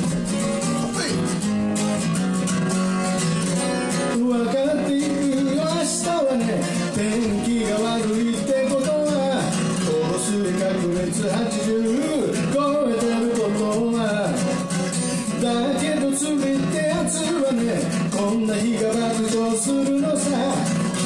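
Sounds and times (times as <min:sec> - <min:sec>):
strummed acoustic guitar: 0:00.0 - 0:21.0
man singing: 0:00.6 - 0:01.5, 0:03.9 - 0:21.0.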